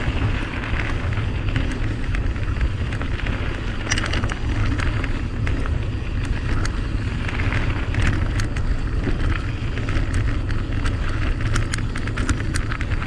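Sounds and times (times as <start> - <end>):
bike rattling over bumps: 0.0 - 13.0
tyre noise on dirt: 0.0 - 13.0
wind rumble on microphone: 0.0 - 13.0.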